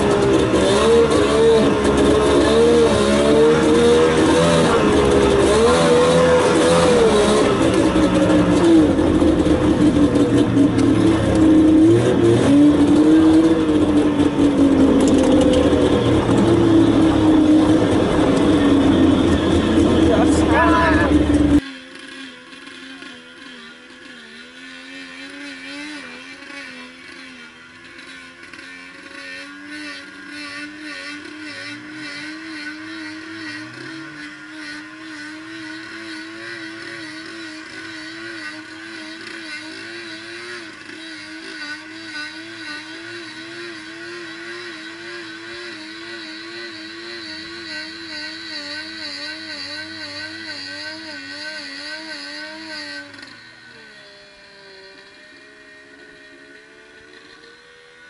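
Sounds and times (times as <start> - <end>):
distant off-road vehicle engine revving: 0.0 - 58.0.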